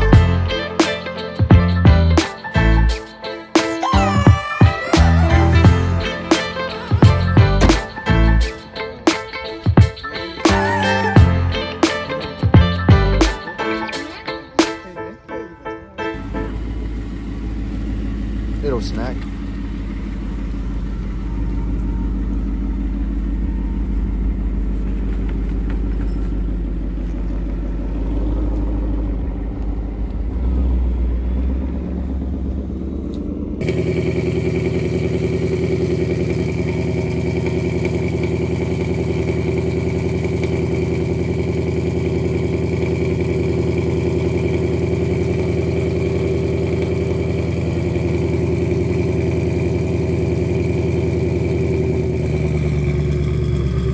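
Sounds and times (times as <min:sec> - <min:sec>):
engine running steadily: 0:00.0 - 0:14.9, 0:16.1 - 0:53.9
car engine idling: 0:00.0 - 0:53.9.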